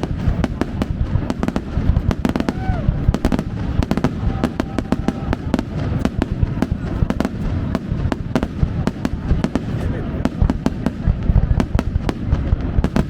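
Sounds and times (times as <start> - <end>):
fireworks bangs: 0.0 - 13.0
low rumble of explosions: 0.0 - 13.0.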